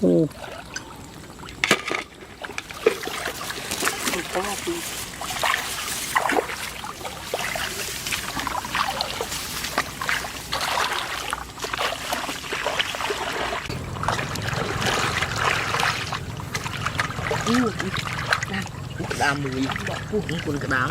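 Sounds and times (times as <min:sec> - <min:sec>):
low steady hum: 0:00.0 - 0:20.9
shallow water splashing: 0:00.0 - 0:20.9.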